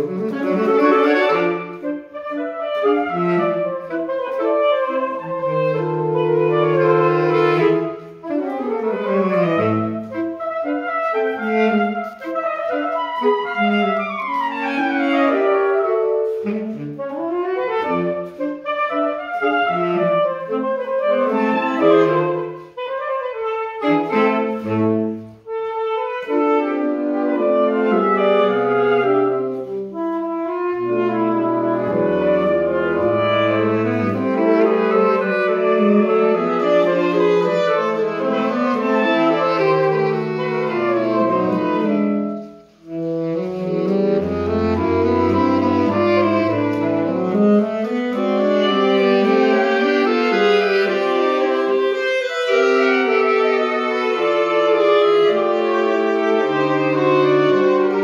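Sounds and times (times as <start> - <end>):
saxophone quartet playing: 0.0 - 58.0.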